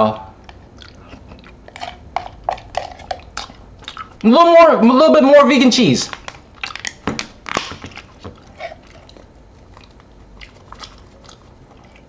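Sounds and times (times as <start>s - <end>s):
faint chewing: 0.4s - 4.3s, 6.1s - 12.0s.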